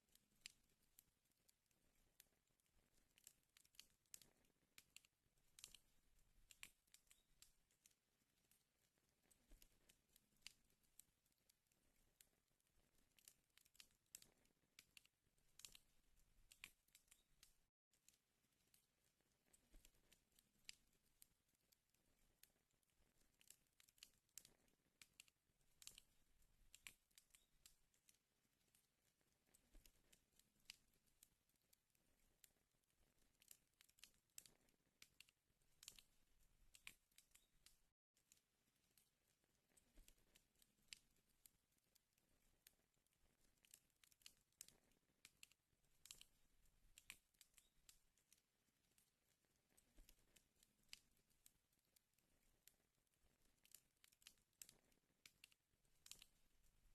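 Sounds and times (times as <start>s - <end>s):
wood fire crackling: 1.6s - 37.9s, 38.8s - 56.9s.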